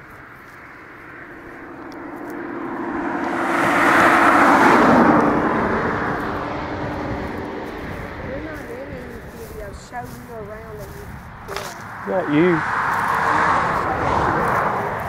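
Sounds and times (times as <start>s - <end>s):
car passing by: 0.0s - 10.2s, 11.0s - 15.0s.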